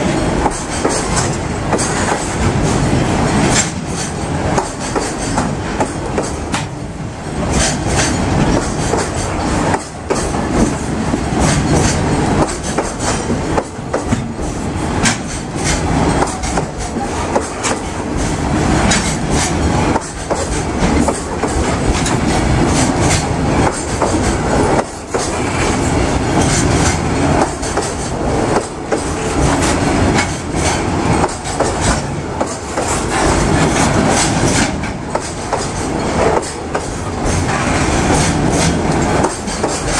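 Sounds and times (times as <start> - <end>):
freight train wheels clattering: 0.0 - 39.9
wheels clacking over rail joints: 0.0 - 39.9.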